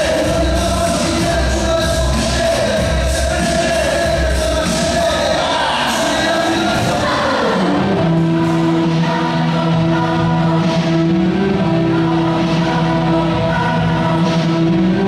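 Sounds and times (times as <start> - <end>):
choir-like music with held notes: 0.0 - 15.0.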